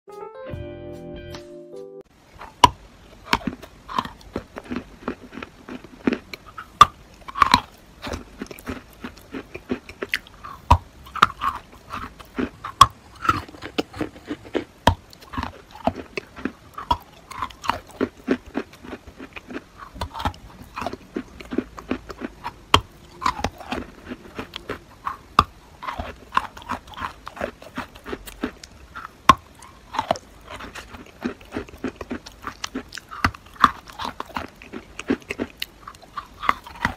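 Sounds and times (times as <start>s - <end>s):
chalk being bitten and chewed: 2.4s - 36.9s.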